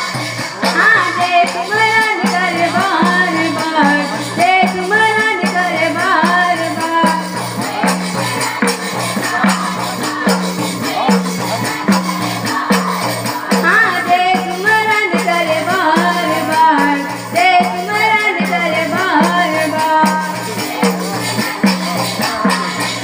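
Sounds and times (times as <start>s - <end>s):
drum beat: 0.0s - 23.0s
jingling cymbals: 0.0s - 23.0s.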